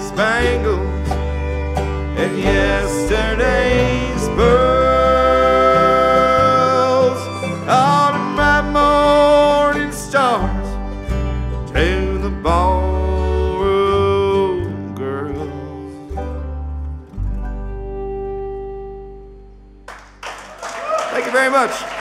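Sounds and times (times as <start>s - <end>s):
bluegrass band playing: 0.0s - 20.3s.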